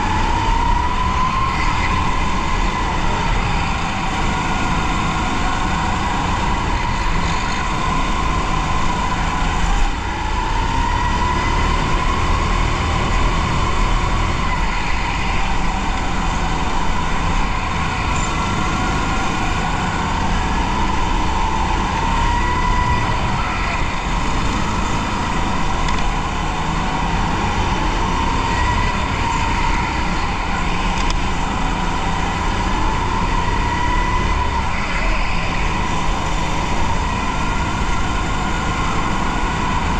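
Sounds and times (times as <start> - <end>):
go-kart engine whine: 0.0 - 39.9.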